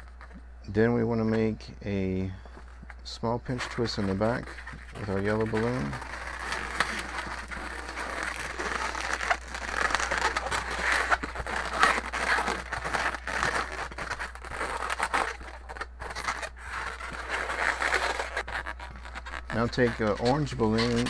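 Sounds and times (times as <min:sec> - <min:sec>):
balloons rubbing and crinkling: 0:00.0 - 0:21.0.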